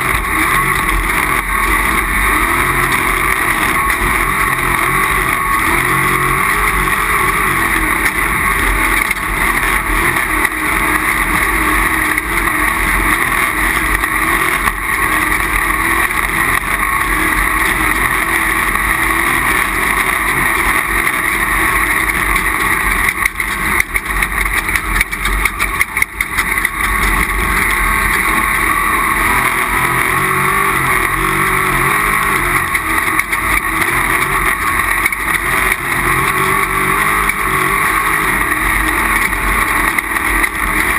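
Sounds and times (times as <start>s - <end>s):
race vehicle engine running hard: 0.0s - 40.9s.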